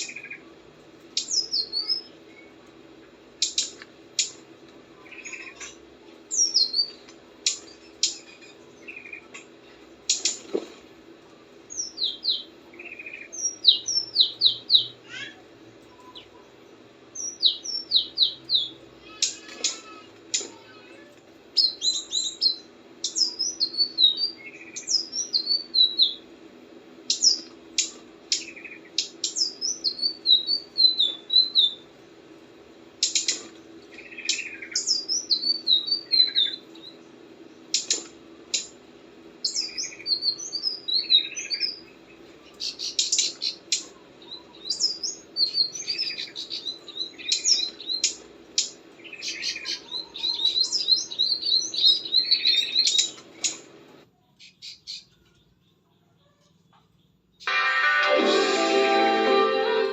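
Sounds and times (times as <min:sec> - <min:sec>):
songbird chirping and singing: 0:00.0 - 0:00.5, 0:01.1 - 0:02.7, 0:03.4 - 0:09.5, 0:11.6 - 0:20.6, 0:21.5 - 0:26.3, 0:27.1 - 0:31.9, 0:33.0 - 0:38.7, 0:39.4 - 0:57.6.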